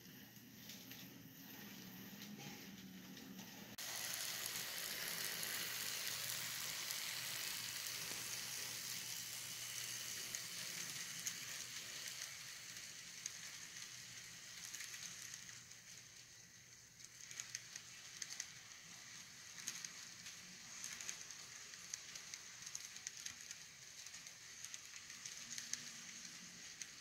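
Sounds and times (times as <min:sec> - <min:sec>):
model train wheels rattling on track: 0:03.8 - 0:27.0.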